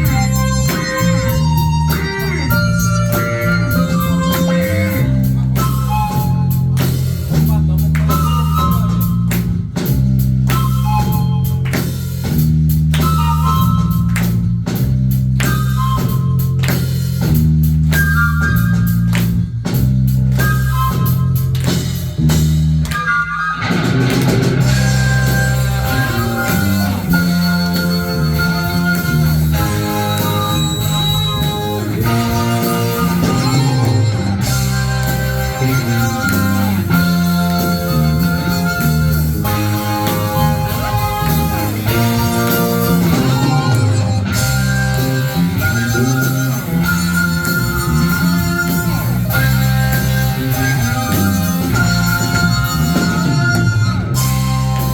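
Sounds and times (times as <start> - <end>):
bass guitar: 0.0 - 54.9
electric guitar: 0.0 - 54.9
rock band playing: 0.0 - 54.9.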